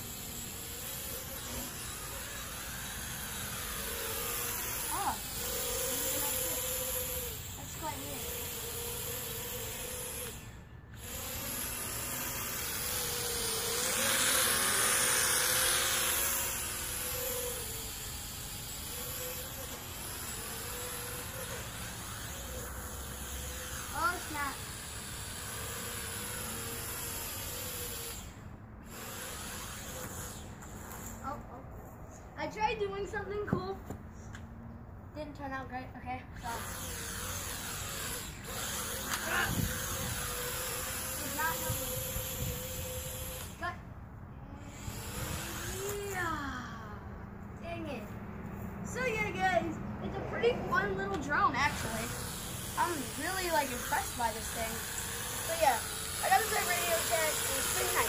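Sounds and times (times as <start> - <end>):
toy drone buzzing: 0.0 - 31.4, 36.4 - 48.0, 48.9 - 58.0.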